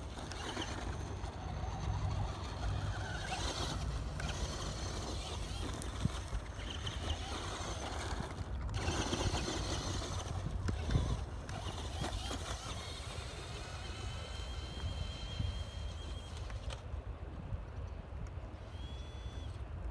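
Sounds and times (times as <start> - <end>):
thin wavering whine: 0.0 - 16.8
radio-controlled car driving on gravel: 0.0 - 16.9, 18.5 - 19.6.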